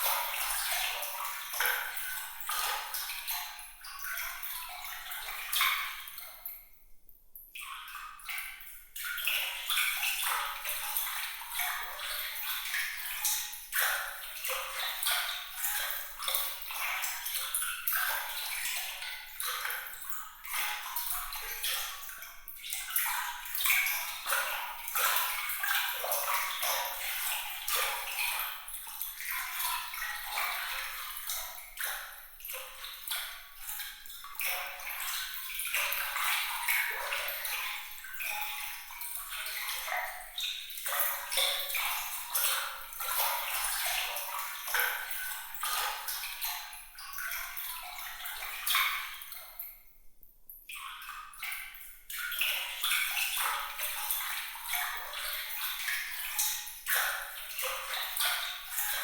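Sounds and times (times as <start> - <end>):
water trickling and splashing: 0.0 - 6.8, 7.6 - 49.9, 50.5 - 59.0.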